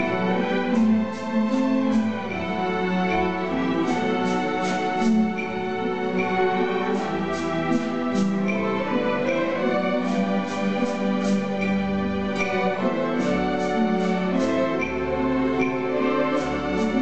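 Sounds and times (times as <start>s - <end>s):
string orchestra playing slow piece: 0.0s - 17.0s.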